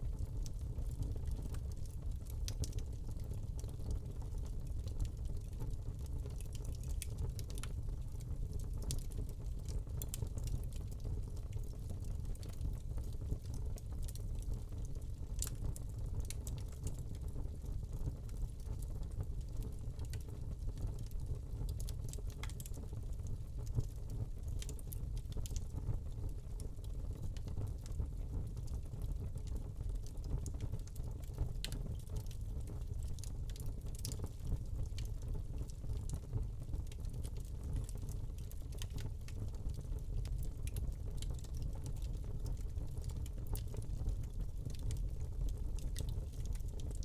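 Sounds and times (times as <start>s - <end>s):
log fire crackling and popping: 0.1s - 18.9s, 19.5s - 47.0s.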